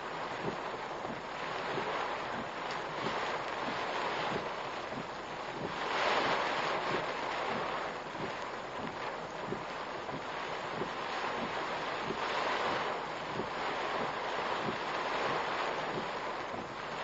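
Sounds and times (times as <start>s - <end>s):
wind and rain rushing: 0.0s - 17.0s.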